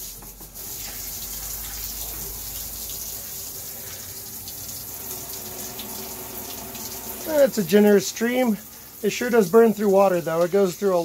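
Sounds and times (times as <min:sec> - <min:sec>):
shower water spraying into tub: 0:00.0 - 0:11.0.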